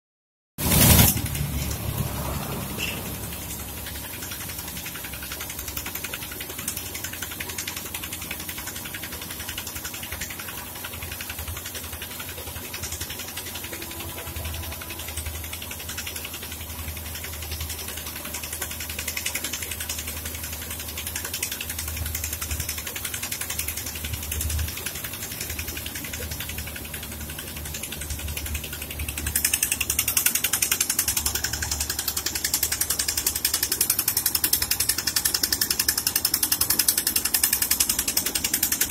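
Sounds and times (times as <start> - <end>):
fast mechanical rattle: 0.6 - 38.9
low engine rumble: 0.6 - 38.9.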